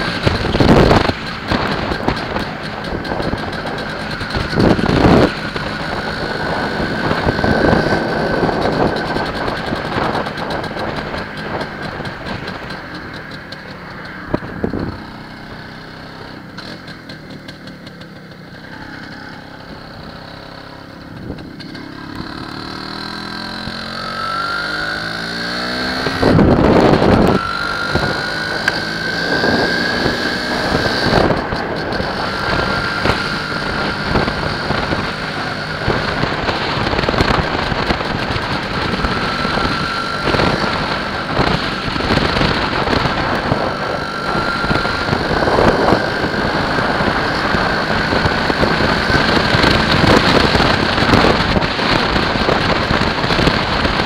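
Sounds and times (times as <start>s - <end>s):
wind buffeting microphone: 0.0s - 17.4s, 18.9s - 54.0s
motorcycle engine accelerating: 0.0s - 54.0s.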